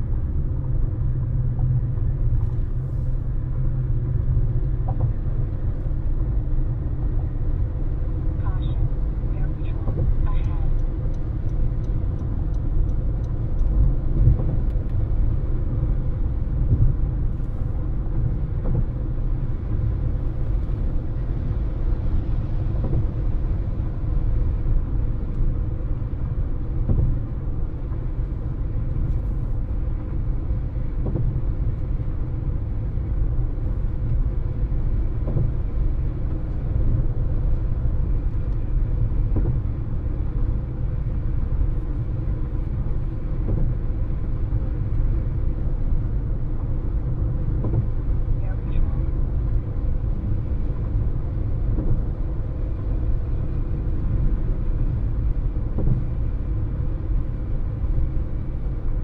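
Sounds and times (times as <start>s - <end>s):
car road noise from inside cabin: 0.0s - 59.0s.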